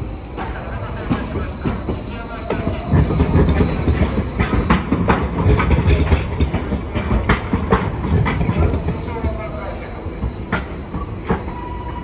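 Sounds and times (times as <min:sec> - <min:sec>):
tram rumbling: 0:00.0 - 0:12.0
wheels clacking over rail joints: 0:00.4 - 0:11.6.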